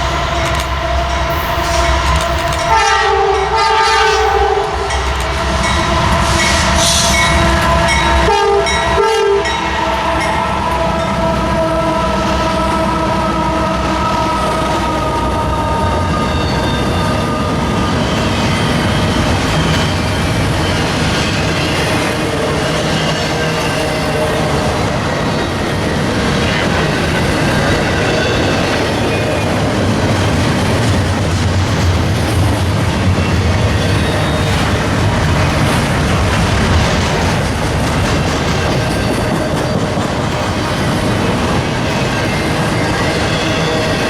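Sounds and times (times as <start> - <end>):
train wheels clattering on rail: 0.0 - 11.5, 12.1 - 44.0.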